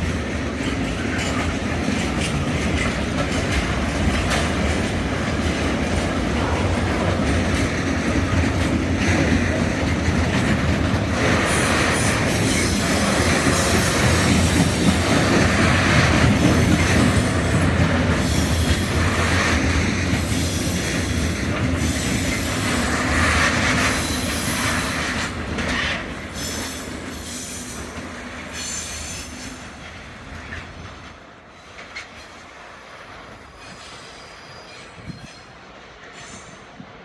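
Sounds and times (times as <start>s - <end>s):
railway wagons rumbling on tracks: 0.0s - 37.0s.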